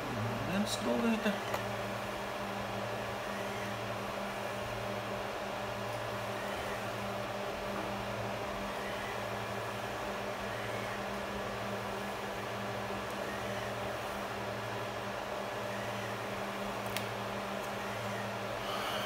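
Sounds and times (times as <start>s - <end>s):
devices humming: 0.0s - 19.0s
fan-like hiss: 0.0s - 19.0s.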